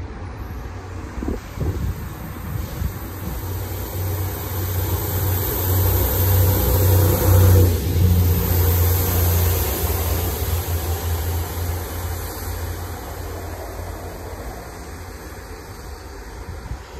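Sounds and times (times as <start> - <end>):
diesel train engines under full power: 0.0 - 16.9.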